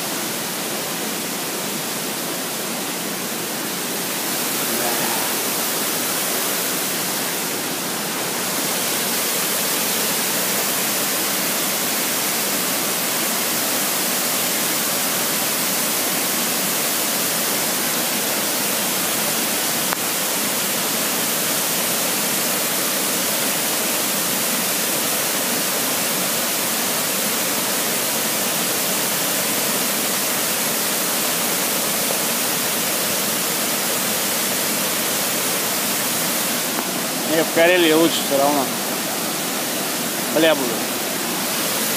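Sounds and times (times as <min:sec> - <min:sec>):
water rushing over boulders: 0:00.0 - 0:41.9.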